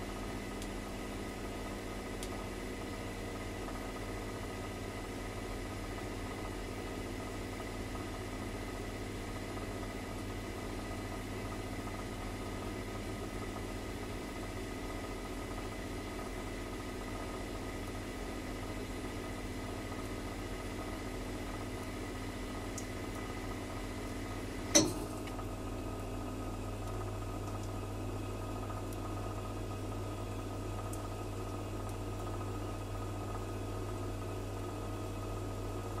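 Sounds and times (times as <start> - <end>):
gas heater hissing and humming: 0.0 - 36.0.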